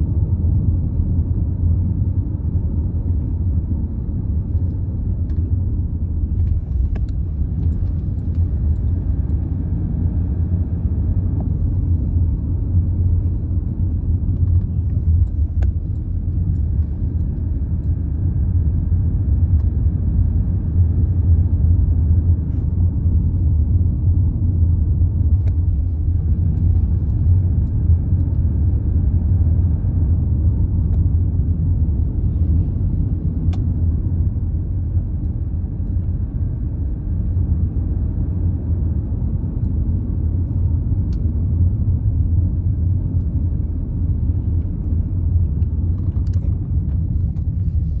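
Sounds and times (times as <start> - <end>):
car interior low rumble: 0.0 - 48.0.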